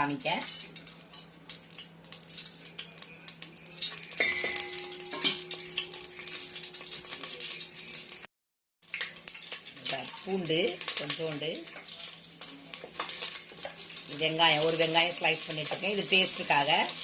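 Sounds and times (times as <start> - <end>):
chillies sizzling in oil: 0.0 - 17.0.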